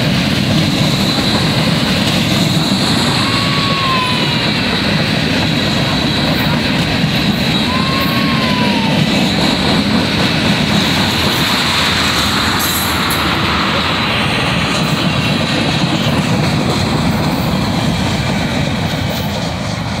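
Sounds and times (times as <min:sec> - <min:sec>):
steel train wheels on rail: 0:00.0 - 0:20.0.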